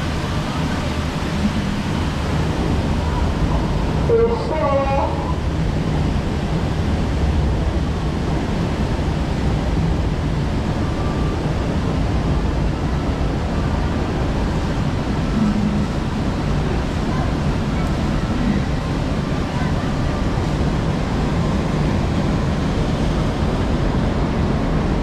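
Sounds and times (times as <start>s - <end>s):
water rushing around raft: 0.0s - 25.0s
wind rumble on microphone: 0.0s - 25.0s.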